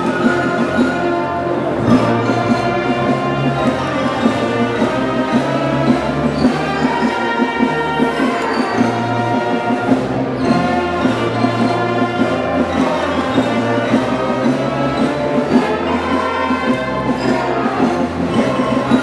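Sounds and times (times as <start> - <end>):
orchestral music with brass: 0.0 - 19.0.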